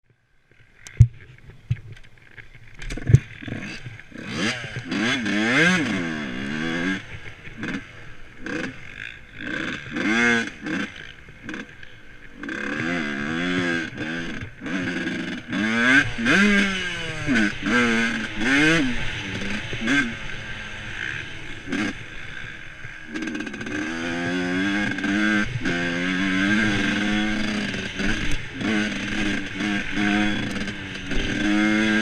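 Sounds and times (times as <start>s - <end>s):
motorbike engine revving: 2.8s - 32.0s.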